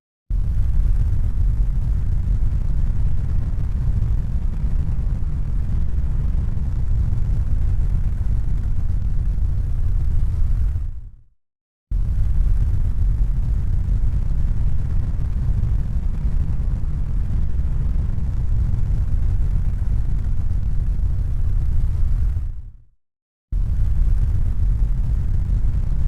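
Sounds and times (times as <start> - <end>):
steady low rumble: 0.3 - 11.2, 11.9 - 22.8, 23.6 - 26.0.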